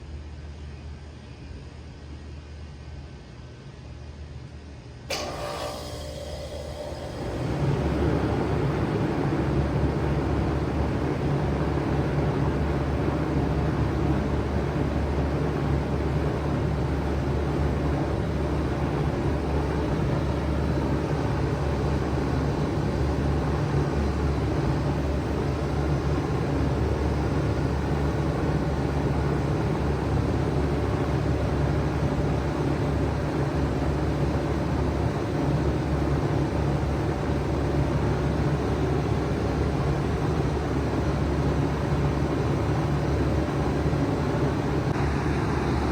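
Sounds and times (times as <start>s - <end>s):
heat pump humming: 5.1s - 45.9s.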